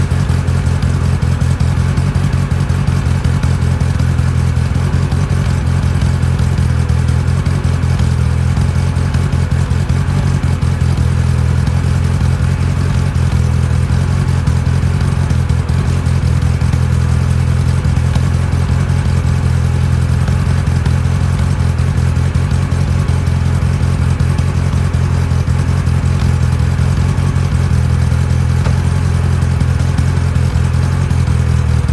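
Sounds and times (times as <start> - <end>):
car engine idling with knocking: 0.0 - 31.9.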